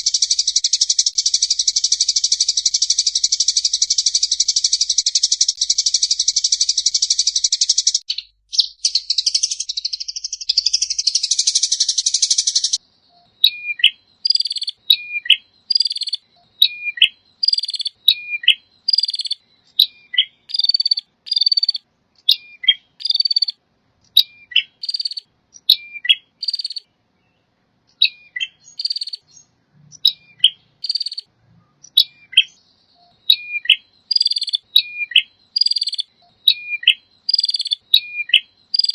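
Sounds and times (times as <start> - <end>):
songbird buzzy rattling call: 0.0 - 12.8, 13.4 - 25.3, 26.4 - 26.9, 28.6 - 29.3, 30.8 - 31.3, 33.4 - 38.9.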